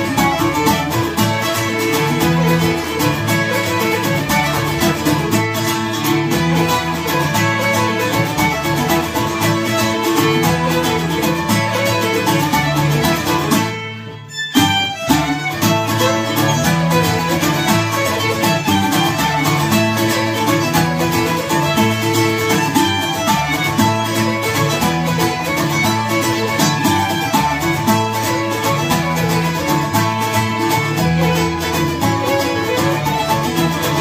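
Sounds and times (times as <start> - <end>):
bouzouki plucked accompaniment: 0.0 - 34.0
bowed fiddle melody: 0.0 - 34.0.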